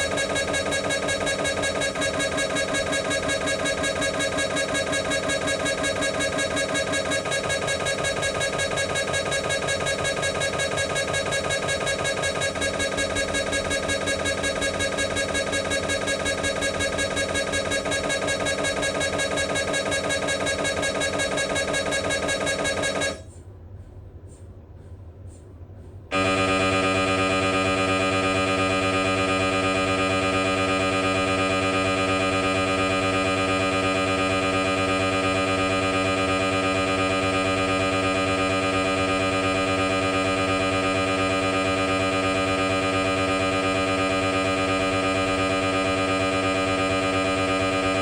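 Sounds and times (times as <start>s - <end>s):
mri scanner buzzing pulses: 0.0s - 23.4s, 26.1s - 48.0s.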